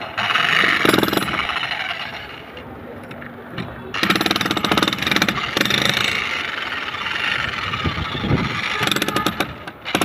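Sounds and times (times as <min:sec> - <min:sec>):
demolition hammer chiselling concrete: 0:00.0 - 0:02.4, 0:03.9 - 0:10.0.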